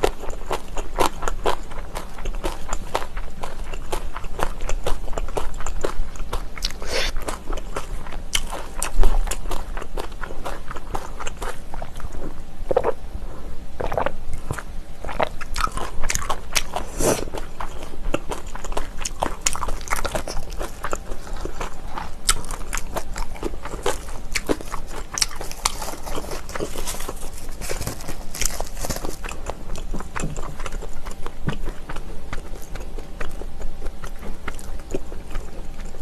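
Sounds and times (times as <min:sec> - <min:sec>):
chewing and crunching food: 0:00.0 - 0:36.0.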